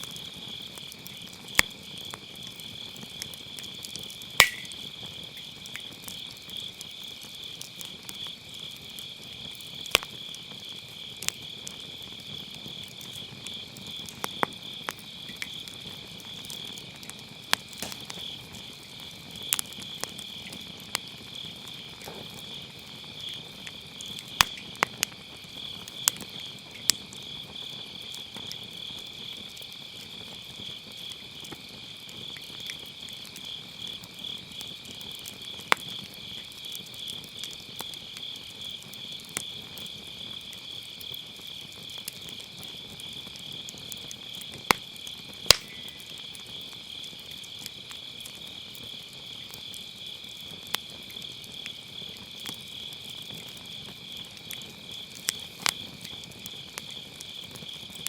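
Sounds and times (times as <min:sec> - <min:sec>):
crickets chirring: 0:00.0 - 0:58.0
fire crackling and popping: 0:00.0 - 0:58.0.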